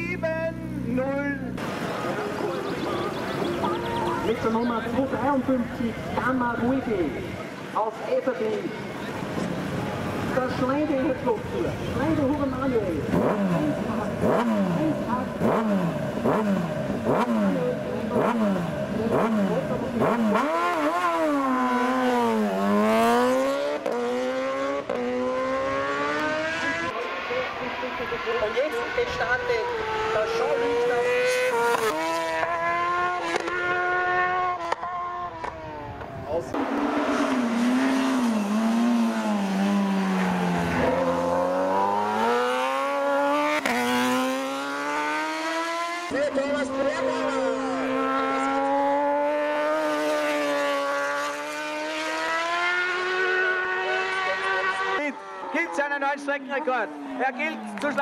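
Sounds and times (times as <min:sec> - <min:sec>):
motorcycle engine revving: 0:08.7 - 0:58.0.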